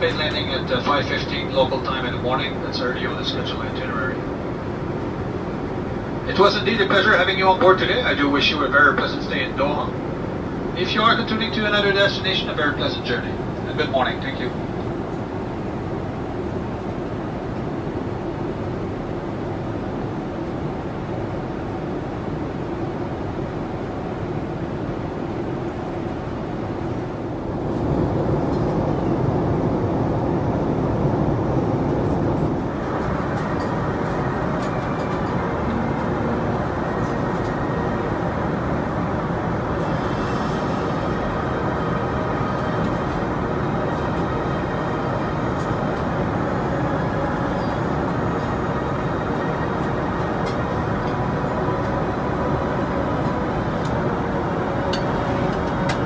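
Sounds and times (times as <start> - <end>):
airliner cabin roar: 0.0 - 56.0.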